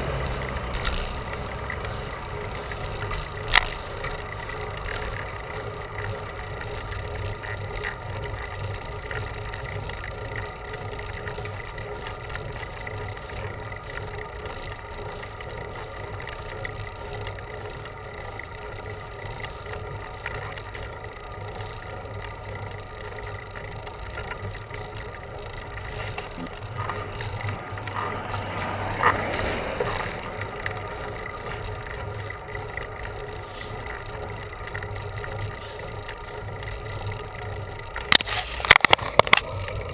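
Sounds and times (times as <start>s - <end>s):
bicycle tyre noise on road: 0.0s - 39.9s.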